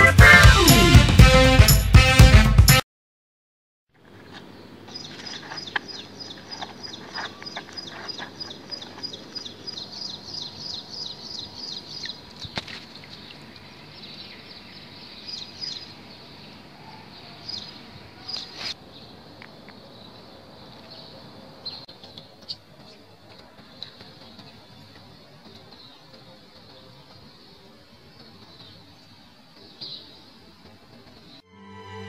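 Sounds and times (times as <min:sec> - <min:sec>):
low outdoor background: 0:03.9 - 0:32.0
bird chirping: 0:04.1 - 0:30.4.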